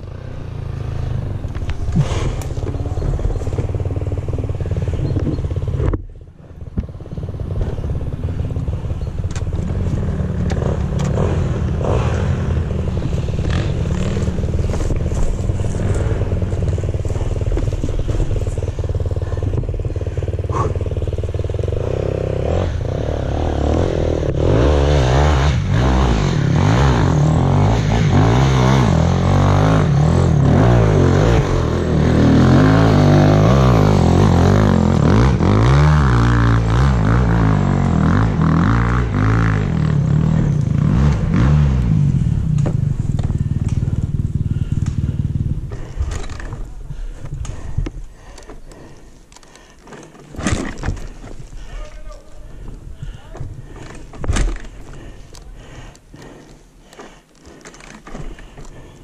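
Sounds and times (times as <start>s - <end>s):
dirt bike engine revving: 0.0s - 5.9s, 6.9s - 49.0s
dirt bike engine idling: 0.0s - 59.0s.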